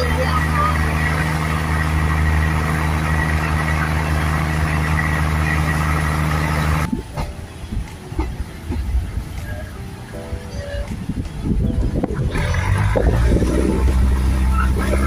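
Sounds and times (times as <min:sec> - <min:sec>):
diesel train engine hum: 0:00.0 - 0:15.0
low rumble: 0:00.0 - 0:15.0
train rolling noise: 0:00.0 - 0:15.0.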